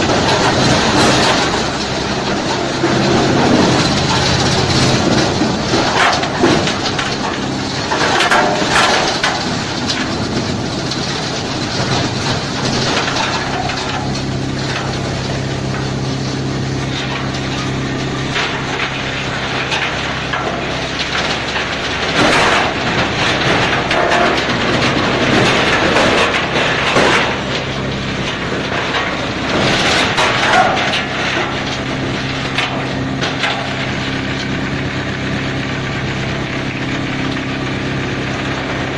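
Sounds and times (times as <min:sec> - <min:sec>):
machine hum: 0:00.0 - 0:38.9
wood crushing and splintering: 0:00.0 - 0:38.9.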